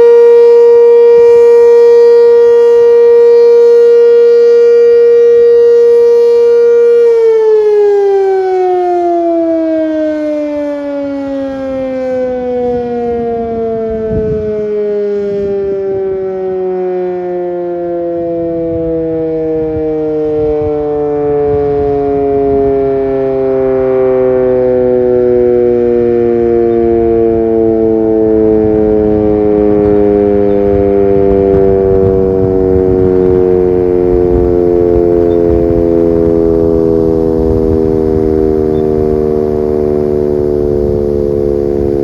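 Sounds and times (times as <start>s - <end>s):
siren winding down: 0.0s - 42.0s.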